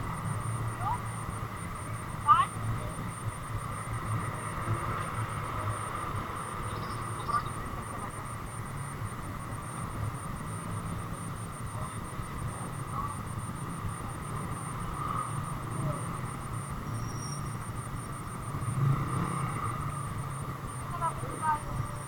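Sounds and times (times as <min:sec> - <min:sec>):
low rumble of engines and traffic: 0:00.0 - 0:22.0.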